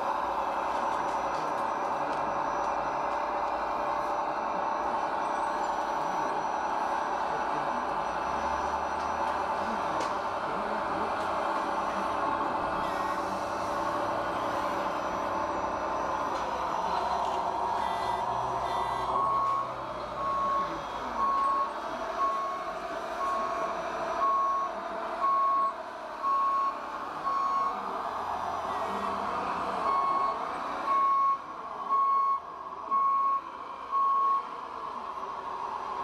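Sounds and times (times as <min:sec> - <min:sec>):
engine-like hum: 0:00.0 - 0:36.0
reversing warning beeps: 0:00.3 - 0:34.5.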